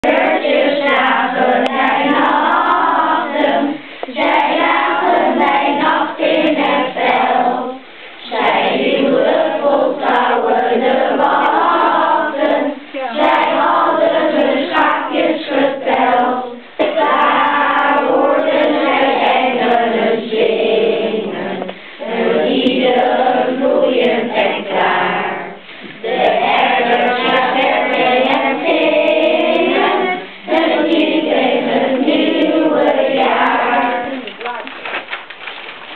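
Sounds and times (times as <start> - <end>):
children's choir singing unaccompanied: 0.0 - 35.0.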